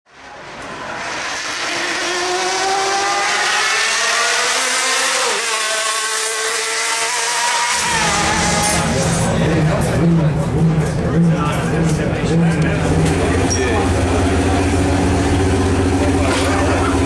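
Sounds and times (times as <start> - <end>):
racing car engine at high revs: 0.2 - 17.0.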